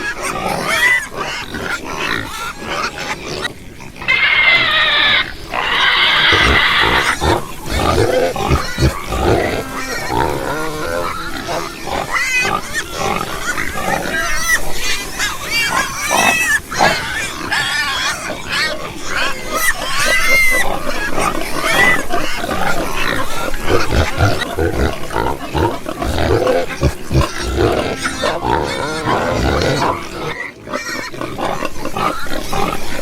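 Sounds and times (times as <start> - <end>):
loud high-pitched pig squeal: 0.0 - 33.0
pigs grunting and squealing: 0.0 - 33.0.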